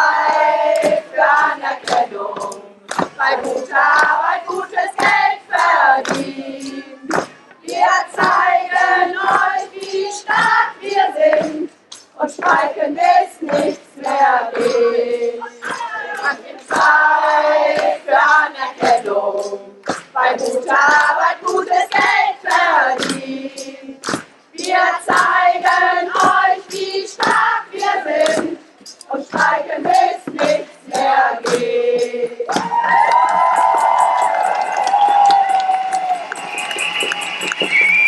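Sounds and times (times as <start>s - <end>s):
women singing together: 0.0s - 34.4s
hand-clapping to the beat: 0.0s - 38.0s.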